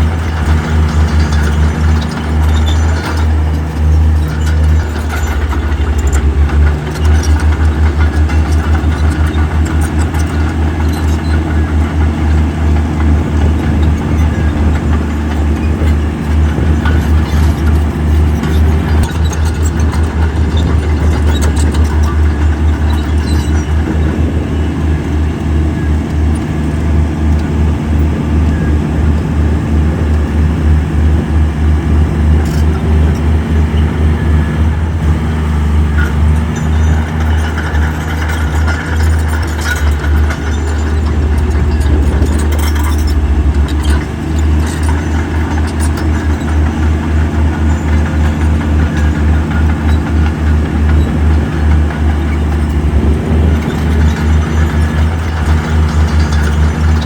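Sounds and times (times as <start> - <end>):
heavy diesel engine rumbling: 0.0 - 57.0.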